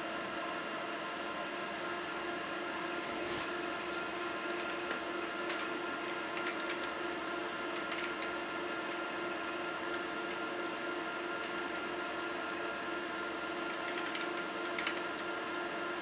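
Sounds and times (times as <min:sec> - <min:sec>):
server cooling fans whirring: 0:00.0 - 0:16.0.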